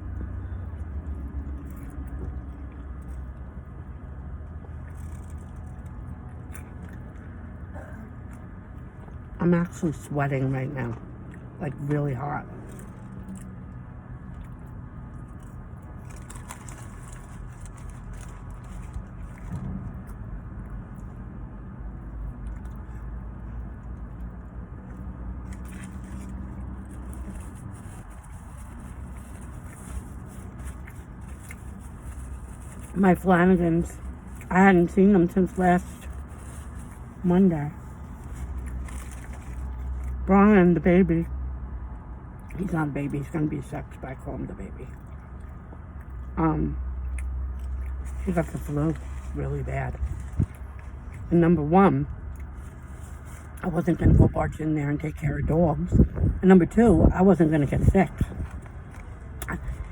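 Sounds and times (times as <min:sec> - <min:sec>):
car engine hum inside cabin: 0:00.0 - 0:59.9.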